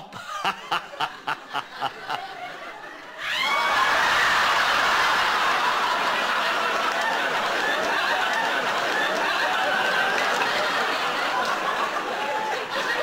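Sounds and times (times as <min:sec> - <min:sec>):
studio audience laughing: 0:00.0 - 0:13.0.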